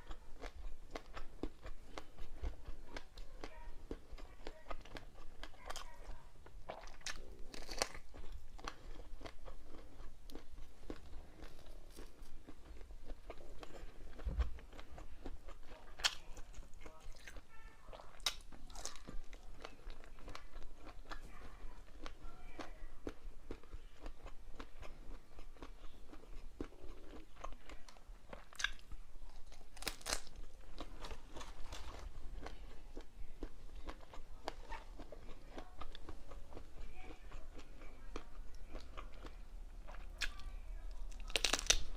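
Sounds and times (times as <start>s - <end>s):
crisp food crunching: 0.0s - 41.9s
wet chewing: 0.0s - 41.9s.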